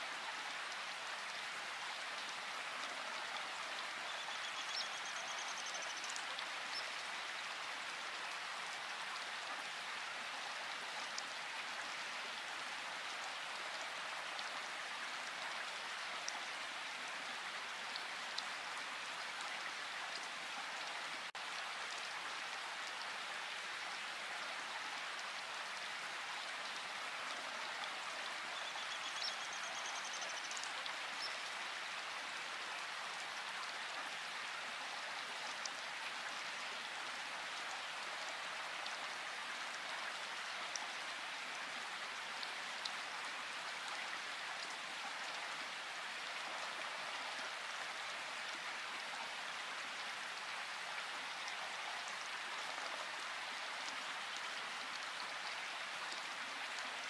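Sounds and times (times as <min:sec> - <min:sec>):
rain-like hiss: 0:00.0 - 0:57.0.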